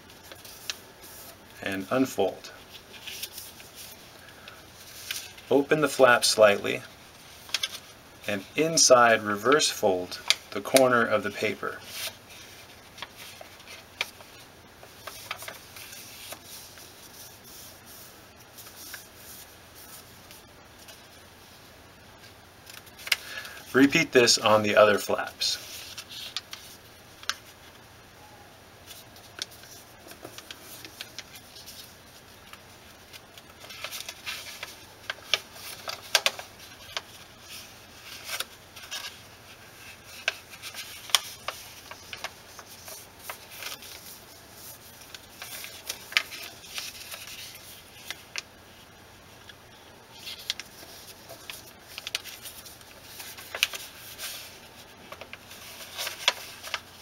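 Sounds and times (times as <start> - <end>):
paper being folded: 0.0 - 21.2, 22.2 - 27.8, 28.8 - 57.0.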